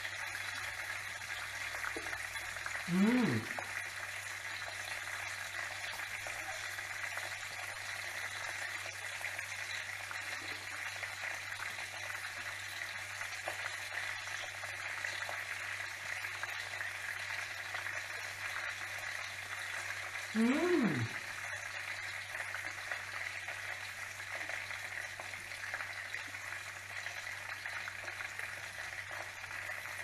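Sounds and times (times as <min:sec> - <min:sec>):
chicken sizzling in oil: 0:00.0 - 0:30.0.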